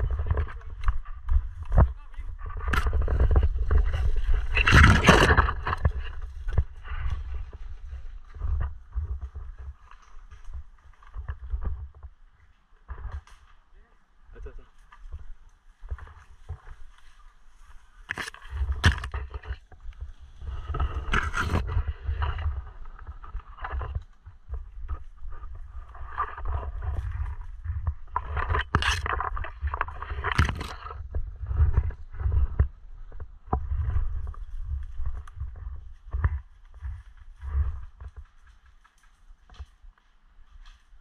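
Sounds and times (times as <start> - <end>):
footsteps on dirt path: 0.0 - 12.2, 14.6 - 41.0
low rumble of camera jostling: 0.0 - 13.7, 14.4 - 41.0.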